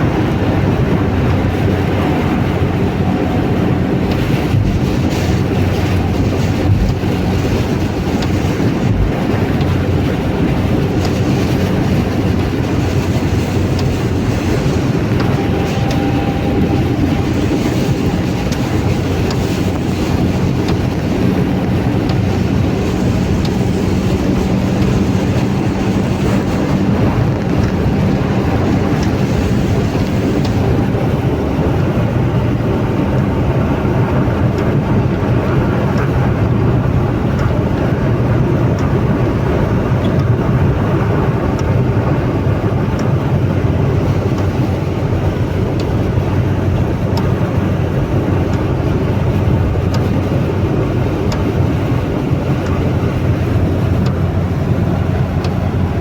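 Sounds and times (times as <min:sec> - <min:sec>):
vehicle rumble: 0:00.0 - 0:56.0.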